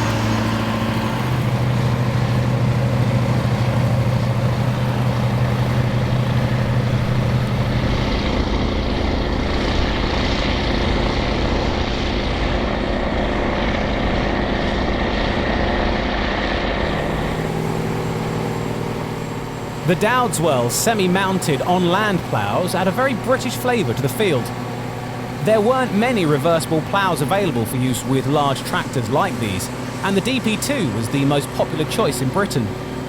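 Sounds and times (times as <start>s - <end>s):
tractor diesel engines droning: 0.0s - 33.0s.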